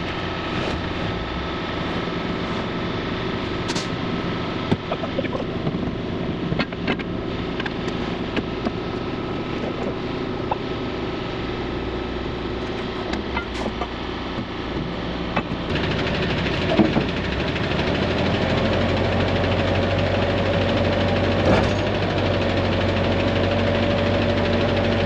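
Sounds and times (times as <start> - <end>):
heavy truck engine running: 0.0 - 25.0.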